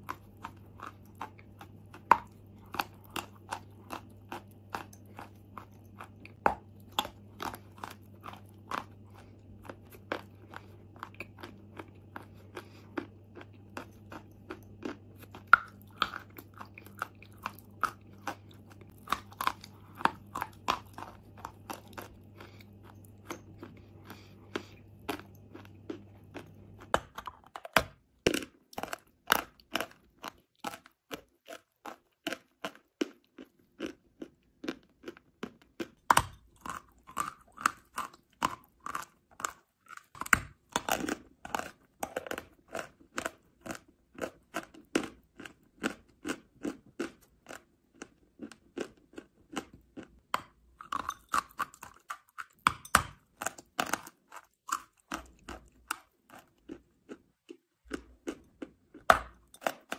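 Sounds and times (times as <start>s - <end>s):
chalk crunching while chewed: 0.0s - 59.9s.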